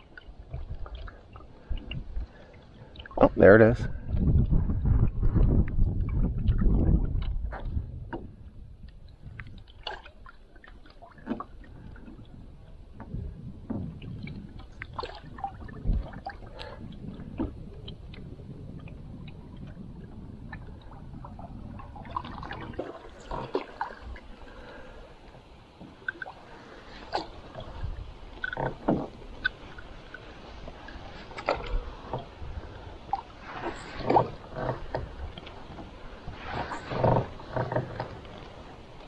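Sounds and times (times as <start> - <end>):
paddle pulling through water: 0.0 - 39.0
water gurgling along hull: 0.0 - 39.0.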